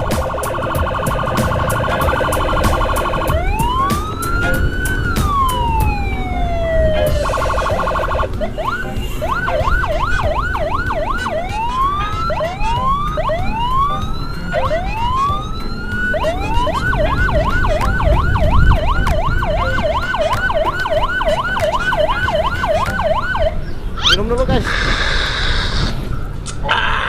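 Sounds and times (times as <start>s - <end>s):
ambulance siren: 0.0s - 23.6s
wind and road noise rumble: 0.0s - 27.0s.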